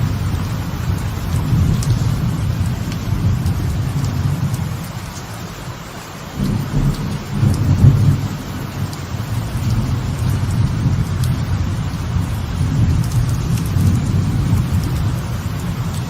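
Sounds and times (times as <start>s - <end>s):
rolling thunder: 0.0s - 4.9s, 6.3s - 16.0s
light rain on a veranda: 0.0s - 16.0s.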